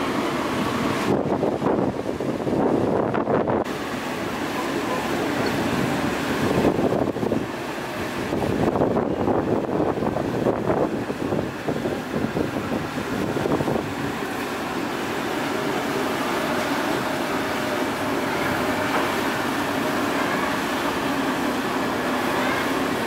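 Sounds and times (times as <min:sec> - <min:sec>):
wind buffeting microphone: 0:00.0 - 0:03.8, 0:05.2 - 0:20.0
ship engines droning: 0:00.0 - 0:23.0.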